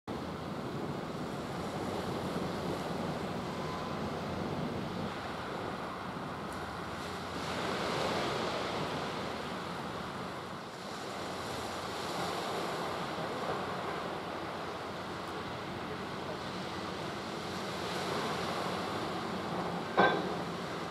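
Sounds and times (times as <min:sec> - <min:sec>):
sea waves washing in: 0:00.1 - 0:20.9.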